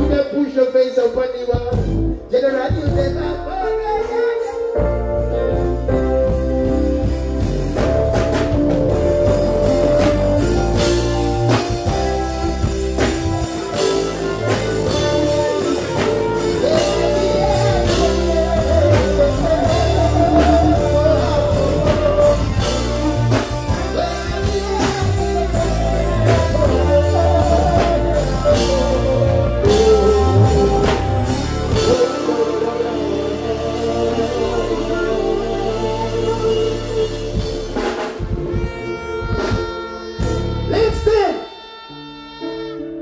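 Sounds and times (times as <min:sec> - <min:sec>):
wavering lead vocal: 0:00.0 - 0:42.9
reggae band playing: 0:00.0 - 0:43.0.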